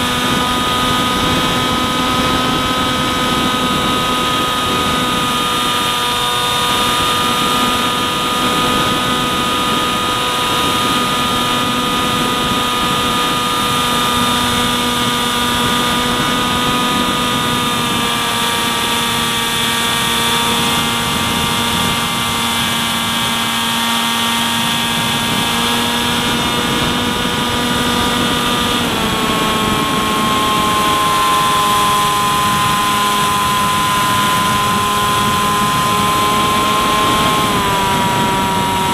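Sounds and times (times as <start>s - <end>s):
electric motor and propeller whining: 0.0s - 38.9s.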